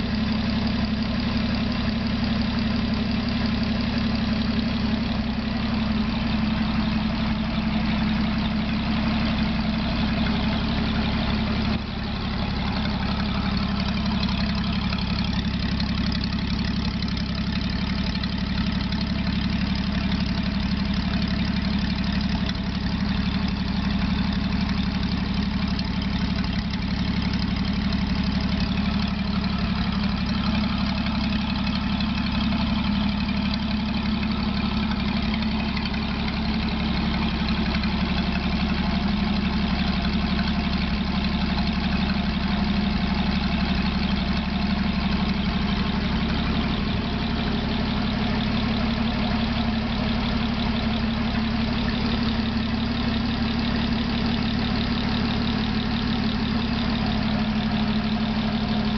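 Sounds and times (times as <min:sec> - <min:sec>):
engine idling: 0:00.0 - 0:58.9.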